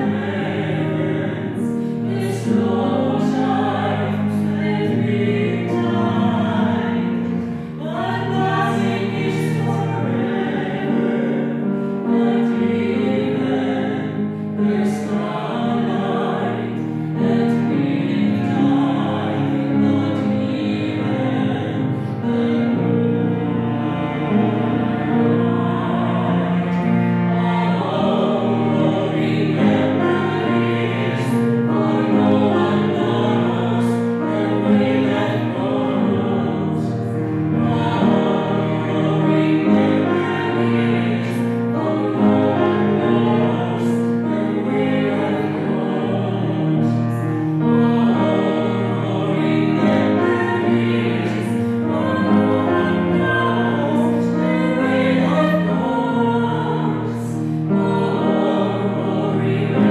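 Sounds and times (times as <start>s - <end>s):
vocal ensemble singing harmony: 0.0s - 59.9s.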